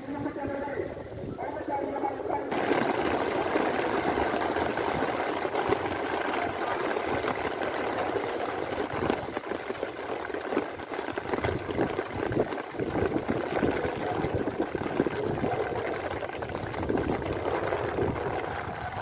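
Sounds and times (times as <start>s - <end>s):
steady rain falling: 1.0s - 19.0s.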